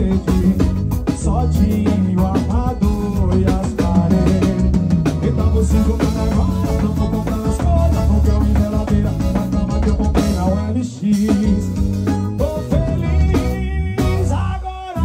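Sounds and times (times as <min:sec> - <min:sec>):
drum kit: 0:00.0 - 0:15.0
electric bass line: 0:00.0 - 0:15.0
keyboards: 0:00.0 - 0:15.0
man singing: 0:00.0 - 0:15.0.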